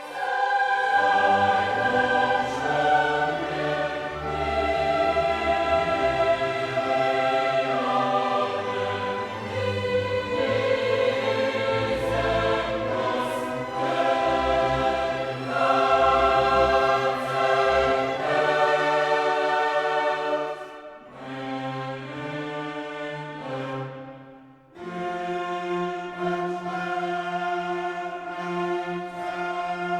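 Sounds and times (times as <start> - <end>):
choir singing with orchestra: 0.0 - 29.9.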